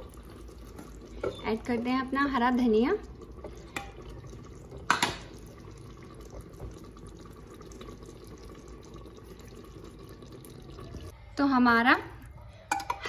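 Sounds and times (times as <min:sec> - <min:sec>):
curry bubbling in a pot: 0:00.0 - 0:11.2.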